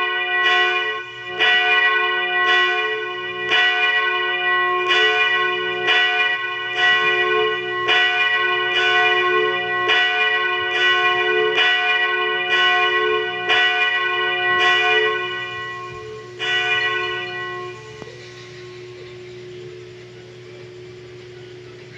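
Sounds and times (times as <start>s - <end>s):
bell ringing: 0.0s - 21.7s.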